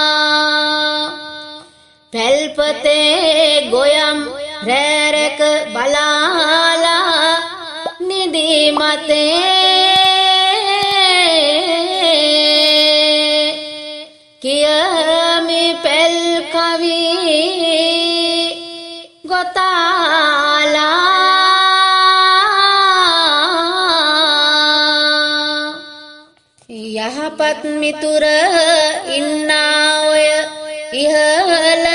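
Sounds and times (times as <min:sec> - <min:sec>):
person chanting a folk verse: 0:00.0 - 0:31.9.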